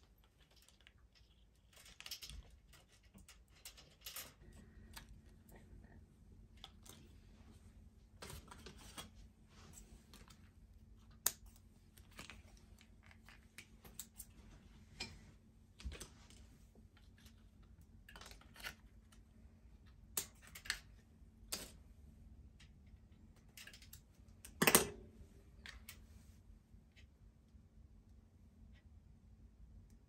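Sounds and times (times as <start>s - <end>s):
items handled on wire grid board: 0.0s - 5.6s, 6.5s - 19.2s, 19.8s - 21.9s, 22.5s - 26.3s.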